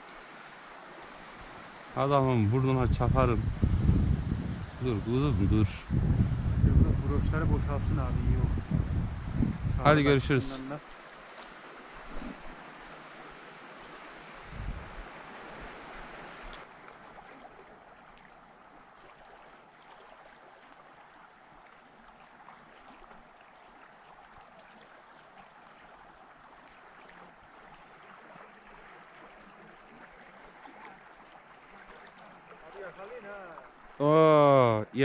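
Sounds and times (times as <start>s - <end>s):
river water rushing: 0.0s - 2.8s, 8.5s - 34.8s.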